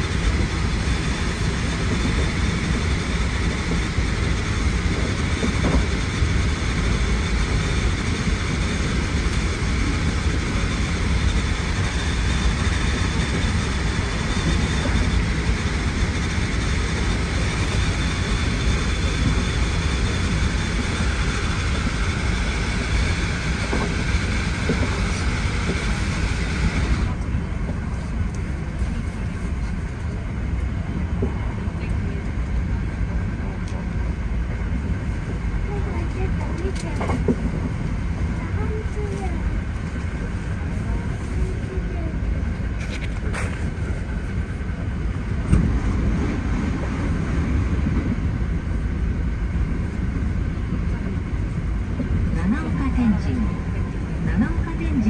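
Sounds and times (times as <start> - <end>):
faint train whine: 0.0 - 55.0
train wheels rumbling on rail: 0.0 - 55.0.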